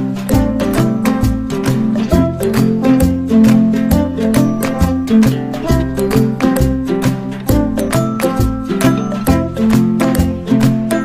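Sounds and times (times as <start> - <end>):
plucked-string tune over beat: 0.0 - 11.0.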